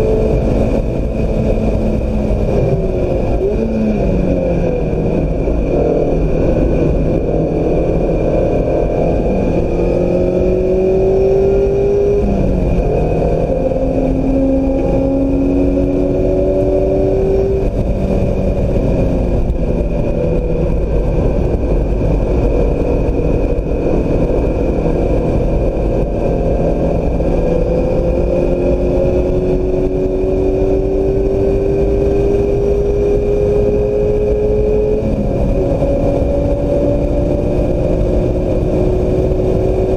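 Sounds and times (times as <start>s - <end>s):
car engine accelerating hard: 0.0s - 39.9s
wind and road noise: 0.0s - 39.9s.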